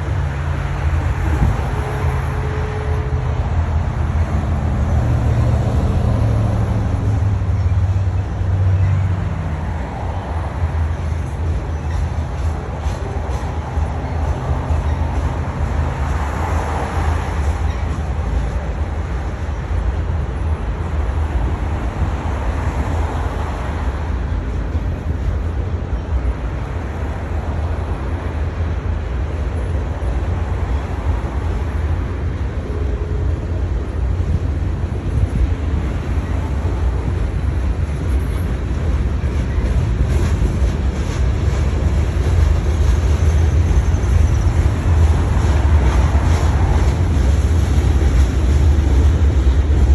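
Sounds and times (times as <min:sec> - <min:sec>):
freight train rumbling past: 0:00.0 - 0:49.9.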